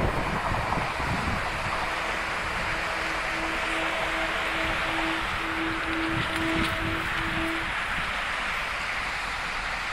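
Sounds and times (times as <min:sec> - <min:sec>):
wind on microphone: 0:00.0 - 0:08.5
train rushing past on rails: 0:00.0 - 0:09.9
faint steady tone: 0:00.7 - 0:09.9.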